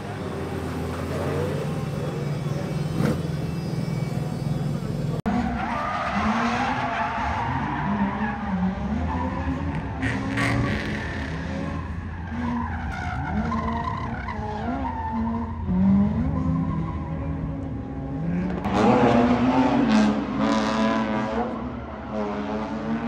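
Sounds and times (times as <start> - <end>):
car engines revving: 0.0 - 23.0
tyres skidding: 0.0 - 23.0.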